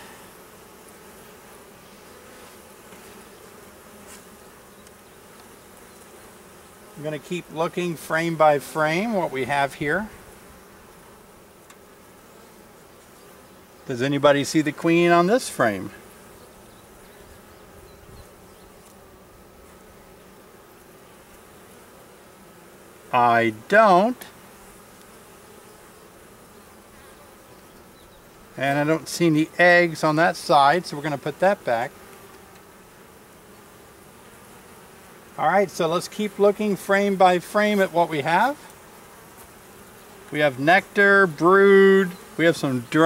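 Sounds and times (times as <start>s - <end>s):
bees buzzing: 0.0s - 43.0s.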